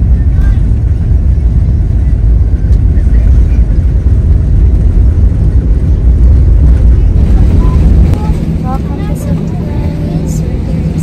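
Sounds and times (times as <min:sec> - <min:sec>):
airliner cabin low rumble: 0:00.0 - 0:11.0.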